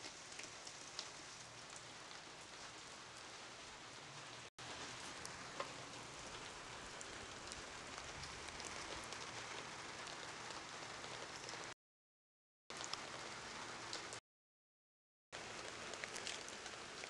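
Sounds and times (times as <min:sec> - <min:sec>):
rain falling: 0:00.0 - 0:11.8, 0:12.7 - 0:14.2, 0:15.4 - 0:17.0.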